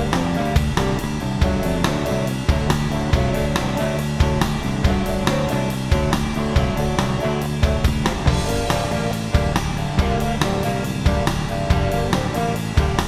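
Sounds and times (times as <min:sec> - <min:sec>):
rock music with drums and guitar: 0:00.0 - 0:13.0.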